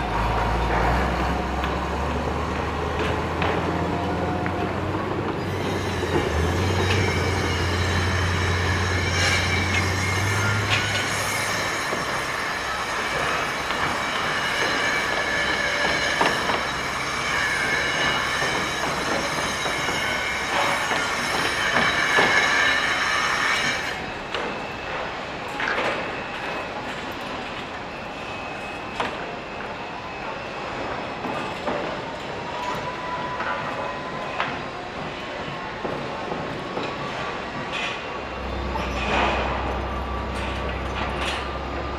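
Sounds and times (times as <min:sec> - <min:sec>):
metallic squealing machinery: 0:00.0 - 0:35.6, 0:36.6 - 0:41.9.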